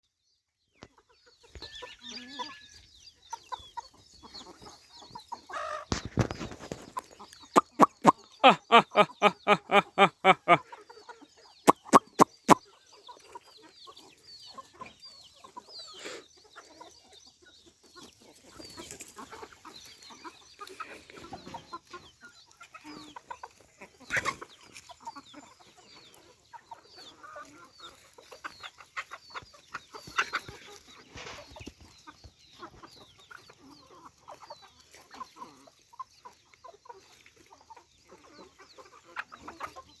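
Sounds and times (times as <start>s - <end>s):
chickens clucking and chirping: 0.7s - 40.0s.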